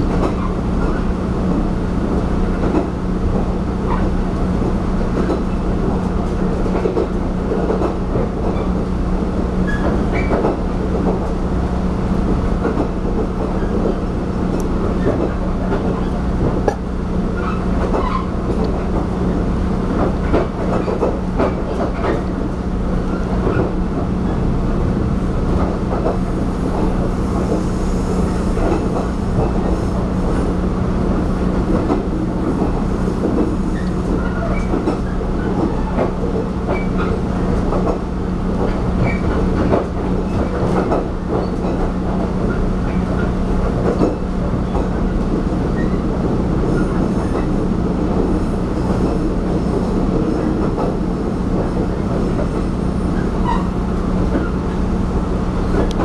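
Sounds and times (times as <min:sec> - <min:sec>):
railcar rumbling along track: 0:00.0 - 0:56.0.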